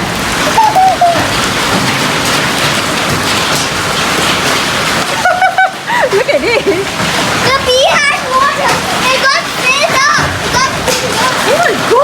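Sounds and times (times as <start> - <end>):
rain and hail pelting: 0.0 - 12.0.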